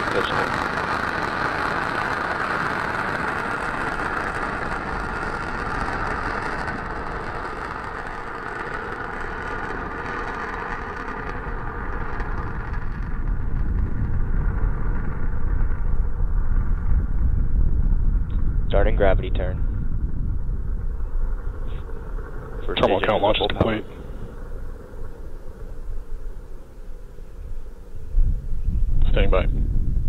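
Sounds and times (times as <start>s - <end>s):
rocket engines roaring: 0.0s - 30.0s.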